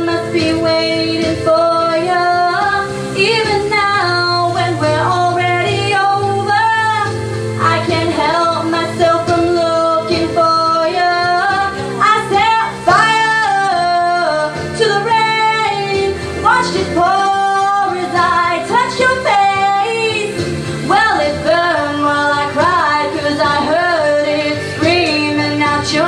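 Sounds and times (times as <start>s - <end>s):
backing music: 0.0s - 26.0s
woman singing: 0.0s - 26.0s.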